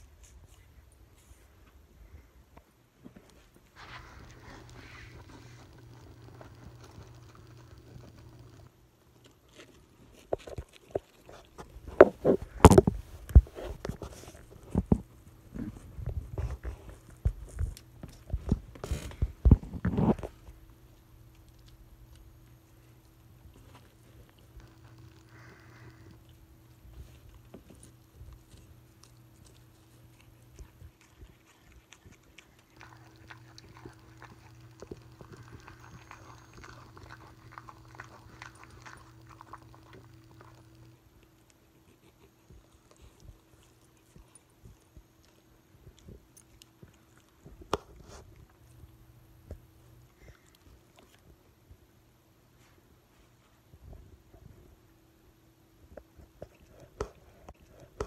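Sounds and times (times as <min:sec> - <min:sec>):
low steady hum: 0:00.0 - 0:58.0
dog chewing and licking: 0:03.8 - 0:51.4, 0:55.9 - 0:58.0.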